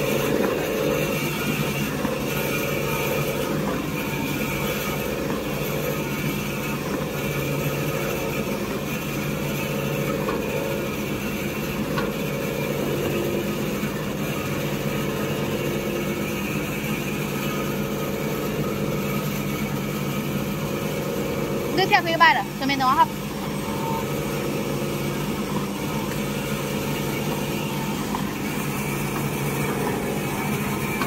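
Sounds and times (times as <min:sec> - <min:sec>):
machinery running with hum: 0:00.0 - 0:31.0.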